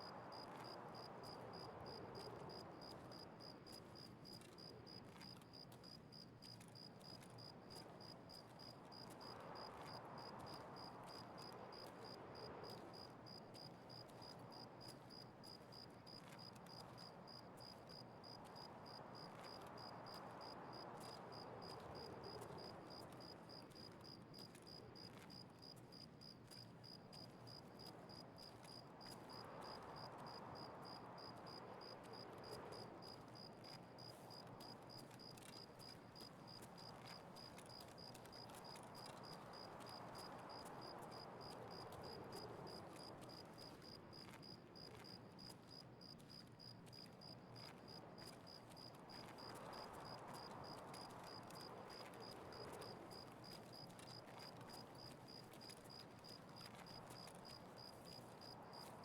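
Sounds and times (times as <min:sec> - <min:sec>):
cricket chirping: 0:09.6 - 0:59.0.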